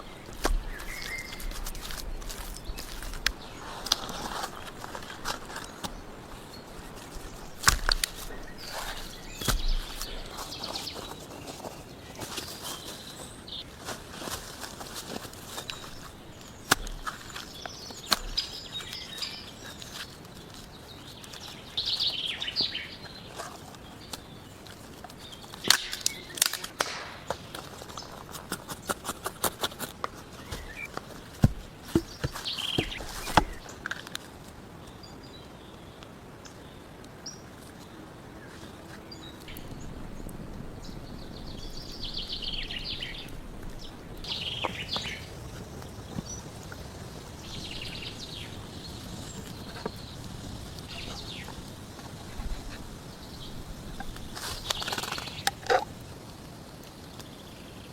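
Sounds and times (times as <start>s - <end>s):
birds chirping: 0.0s - 56.1s.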